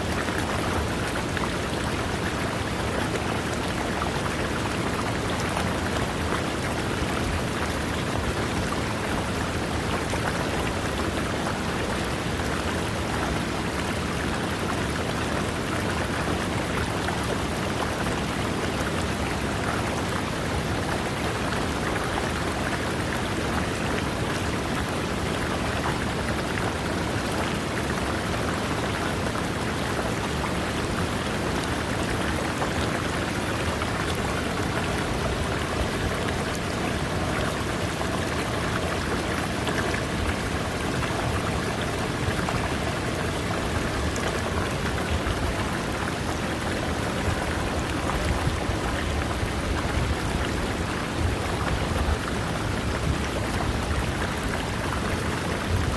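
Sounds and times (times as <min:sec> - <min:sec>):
river water rushing over rocks: 0:00.0 - 0:55.9.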